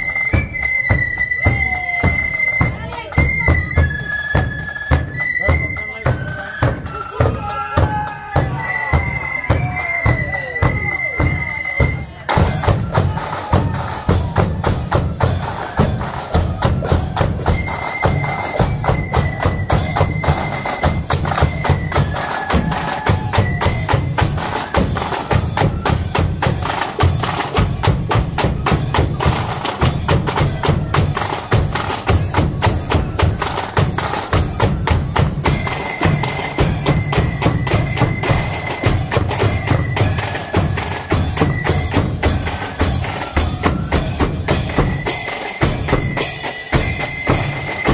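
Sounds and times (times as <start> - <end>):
marching drums: 0.0 - 47.9.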